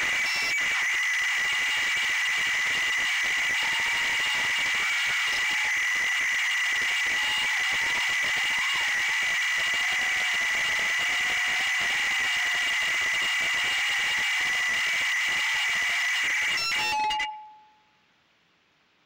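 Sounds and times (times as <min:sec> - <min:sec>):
drone propellers whining: 0:00.0 - 0:16.6.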